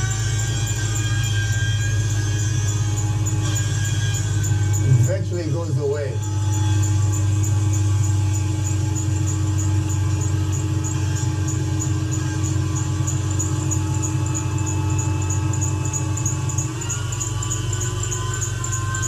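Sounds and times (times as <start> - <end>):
air pump humming loudly: 0.0 - 19.0
car engine running: 0.0 - 19.0.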